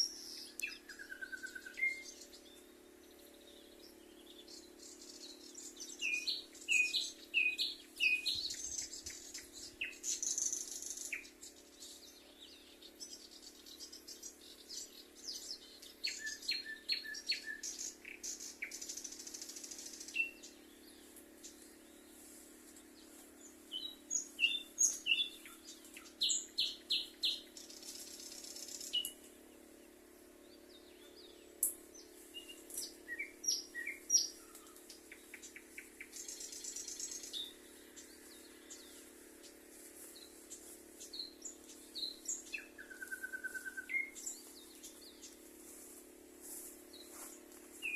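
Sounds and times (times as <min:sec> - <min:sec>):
small songbirds chirping: 0:00.0 - 0:47.9.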